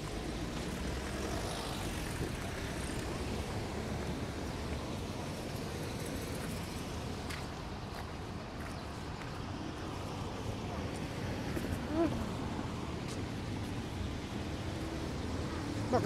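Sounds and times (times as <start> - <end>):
cars driving past: 0.0 - 8.6, 9.4 - 16.0.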